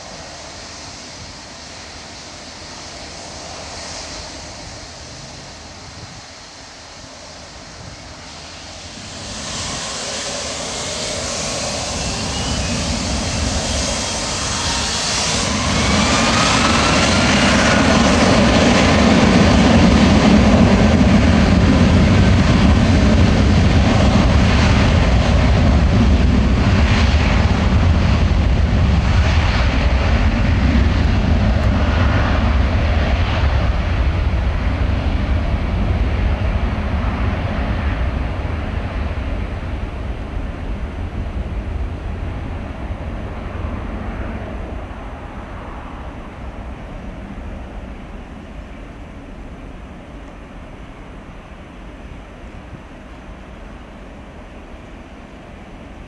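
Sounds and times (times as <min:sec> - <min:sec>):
jet engines spooling up: 0:00.0 - 0:56.0
jet takeoff roar: 0:00.0 - 0:56.0.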